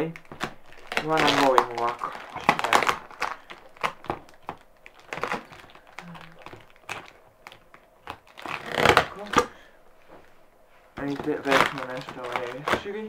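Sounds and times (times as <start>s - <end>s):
tape crinkling and tearing: 0.0s - 10.4s, 11.0s - 13.0s.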